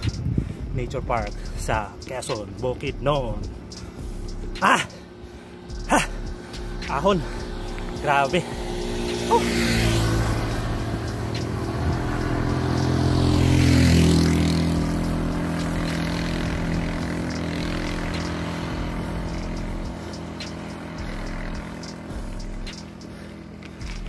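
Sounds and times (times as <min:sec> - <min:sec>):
vehicle engine passing: 0:00.0 - 0:24.0.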